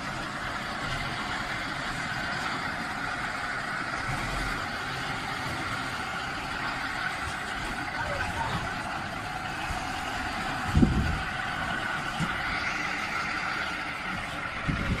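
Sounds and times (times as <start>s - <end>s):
vehicle running: 0.0s - 15.0s.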